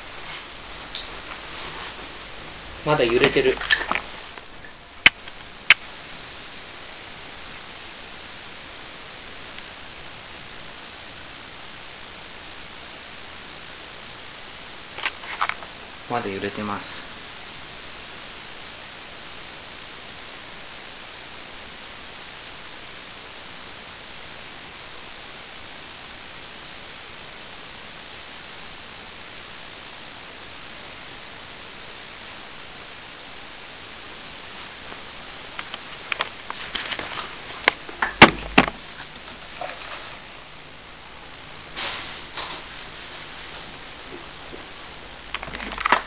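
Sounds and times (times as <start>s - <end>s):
room tone hiss: 0.0s - 46.0s.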